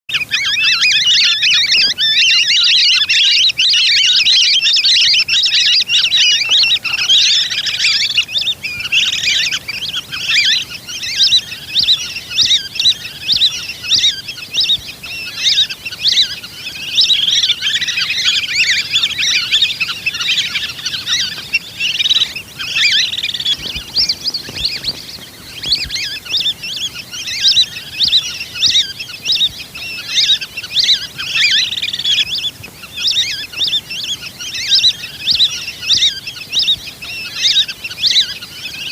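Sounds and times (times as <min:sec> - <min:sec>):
ducks whistling calls: 0:00.1 - 0:38.9.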